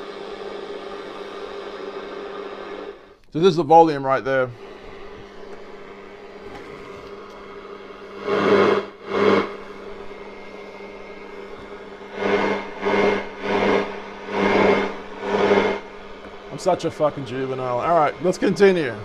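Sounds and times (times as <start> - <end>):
low hum: 0.0 - 19.0
radio static hiss: 0.0 - 19.0.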